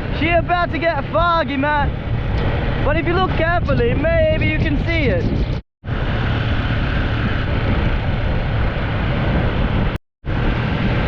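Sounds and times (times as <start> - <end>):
dirt bike engine hum: 0.0 - 11.0
wind rush on microphone: 0.0 - 11.0.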